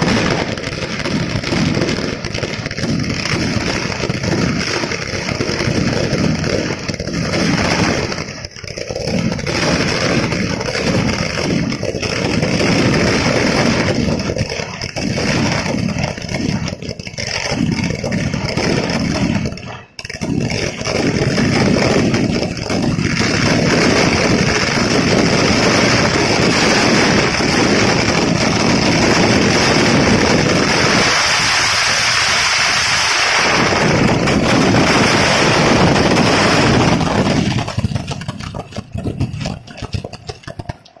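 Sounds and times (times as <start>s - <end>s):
firecracker blasts: 0.0s - 41.0s
fireworks crackles and bangs: 0.0s - 41.0s
hissing burning fountains: 0.0s - 41.0s.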